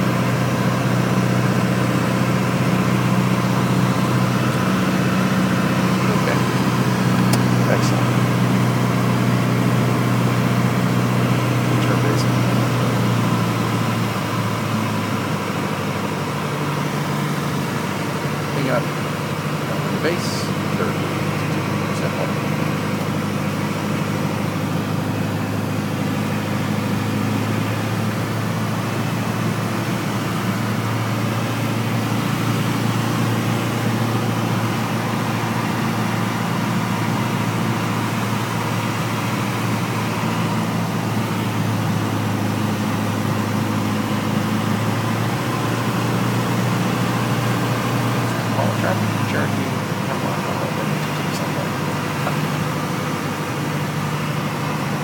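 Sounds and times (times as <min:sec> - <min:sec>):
aircraft engine and propeller: 0:00.0 - 0:55.0.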